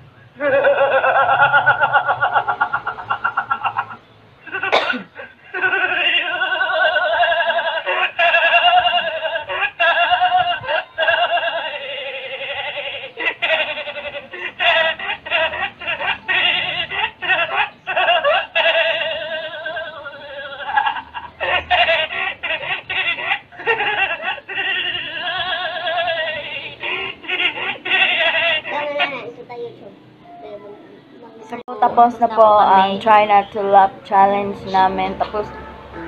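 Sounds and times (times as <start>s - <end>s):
child laughing: 0.4s - 29.4s.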